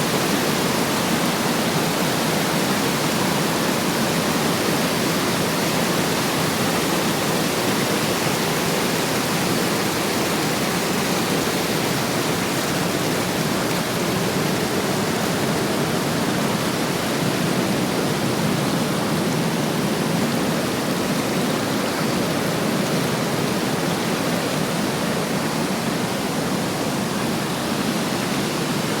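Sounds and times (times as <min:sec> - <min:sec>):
water rushing down a waterfall: 0:00.0 - 0:29.0.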